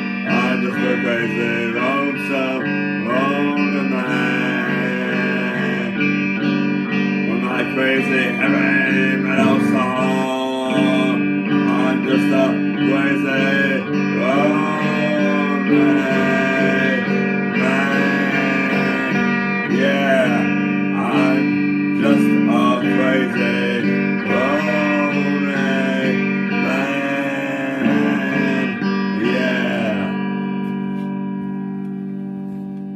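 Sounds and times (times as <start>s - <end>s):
electric guitar bent notes and strums: 0.0s - 32.9s
steady held low tone: 0.0s - 32.9s.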